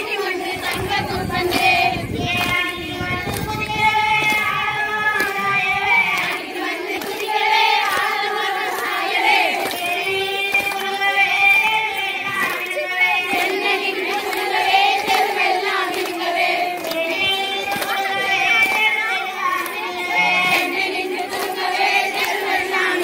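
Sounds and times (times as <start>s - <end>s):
hands clapping: 0.0s - 23.0s
women singing folk song: 0.0s - 23.0s.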